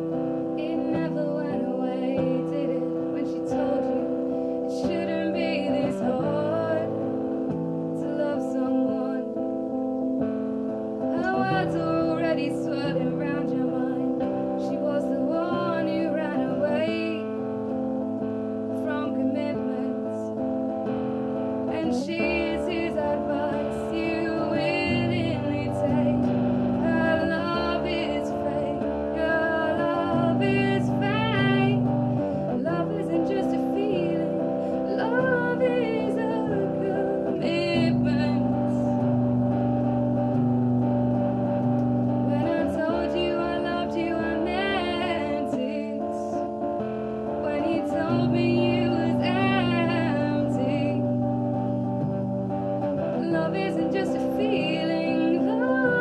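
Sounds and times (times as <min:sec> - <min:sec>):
woman singing: 0:00.0 - 0:21.0, 0:21.6 - 0:40.5, 0:42.1 - 0:56.0
strummed guitar: 0:00.0 - 0:56.0.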